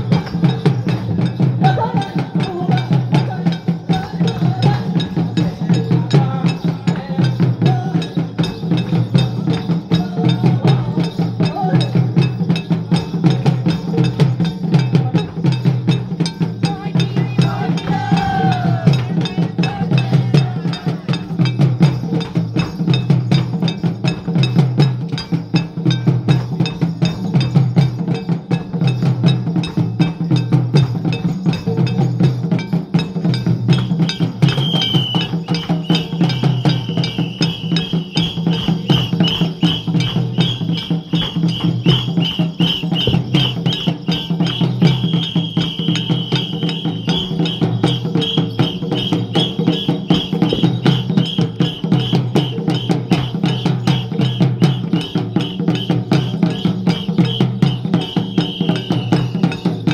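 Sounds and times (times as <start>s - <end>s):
drums in fast steady rhythm: 0.0s - 59.9s.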